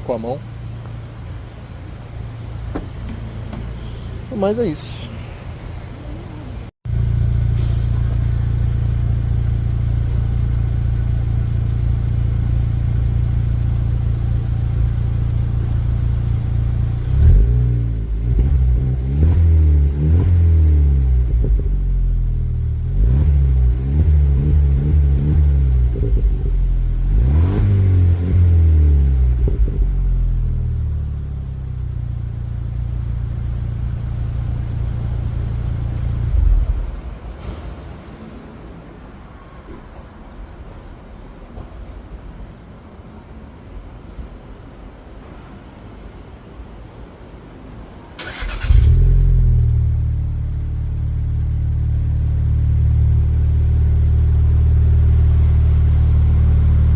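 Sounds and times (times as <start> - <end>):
car engine idling and revving: 0.0 - 40.2, 48.2 - 56.9.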